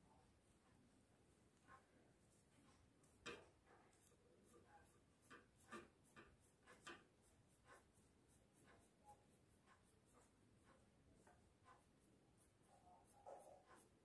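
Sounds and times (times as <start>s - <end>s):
oil pastel scratching on paper: 0.5s - 14.0s.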